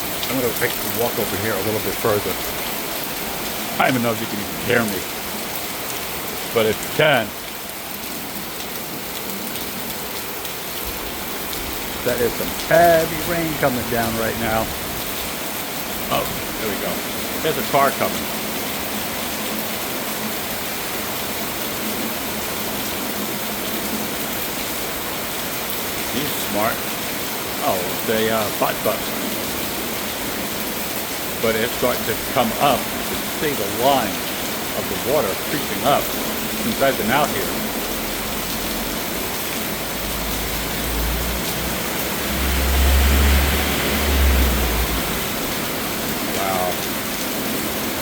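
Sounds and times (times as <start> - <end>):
heavy rain pouring: 0.0 - 48.0.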